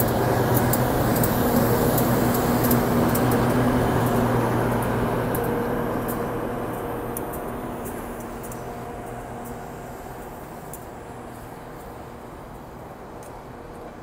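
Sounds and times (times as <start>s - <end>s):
diesel locomotive engines droning: 0.0s - 14.0s
wheels rumbling on rail: 0.0s - 14.0s.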